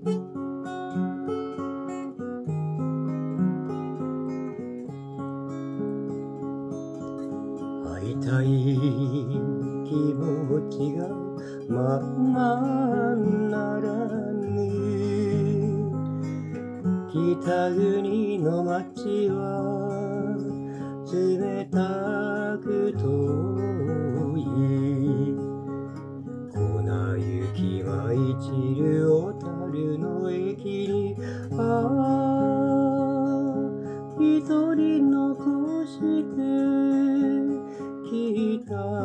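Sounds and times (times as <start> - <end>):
acoustic guitar strumming chords: 0.0 - 39.0.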